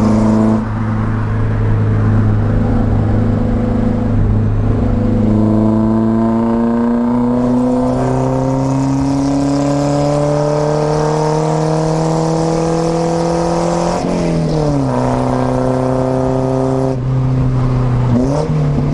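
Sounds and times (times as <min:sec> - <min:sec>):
car engine and exhaust: 0:00.0 - 0:18.9.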